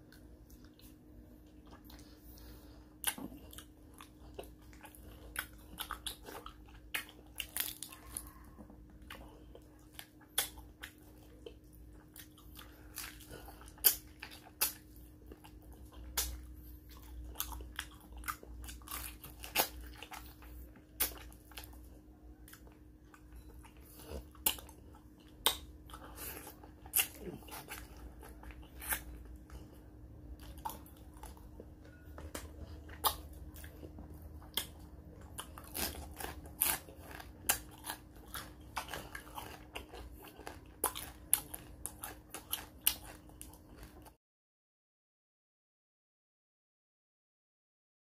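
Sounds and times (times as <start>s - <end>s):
chewing food: 0.0s - 44.2s.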